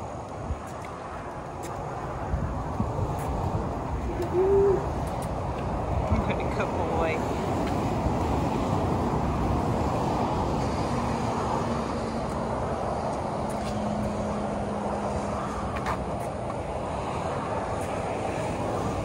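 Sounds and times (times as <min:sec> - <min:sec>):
highway traffic noise: 0:00.0 - 0:19.0
low hum of passing vehicle: 0:00.0 - 0:19.0.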